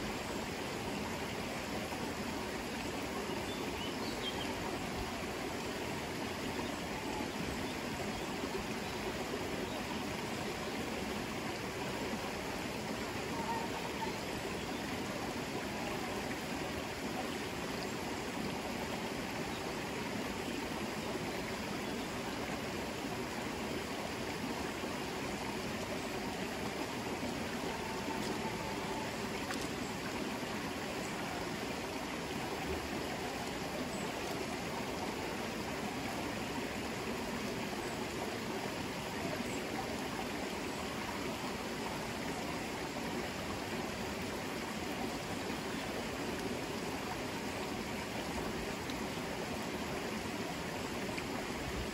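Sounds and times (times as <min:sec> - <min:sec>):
river water flowing: 0:00.0 - 0:51.9.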